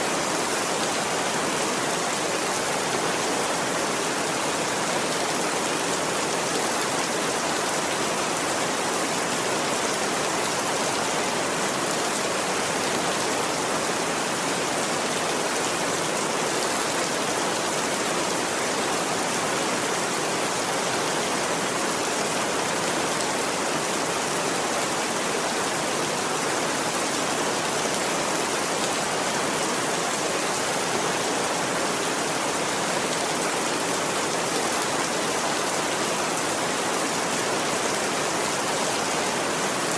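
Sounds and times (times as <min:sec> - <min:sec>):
steady dense rain hiss: 0:00.0 - 0:39.9.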